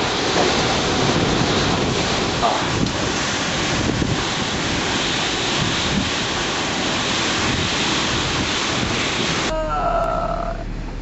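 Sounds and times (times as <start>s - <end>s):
wind buffeting microphone: 0.0s - 9.5s
gale wind and driving rain: 0.0s - 11.0s.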